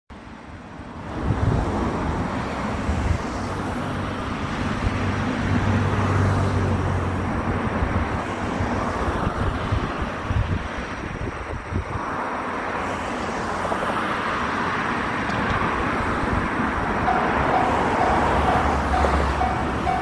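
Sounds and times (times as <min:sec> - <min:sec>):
vehicle rumble: 0:00.8 - 0:20.0.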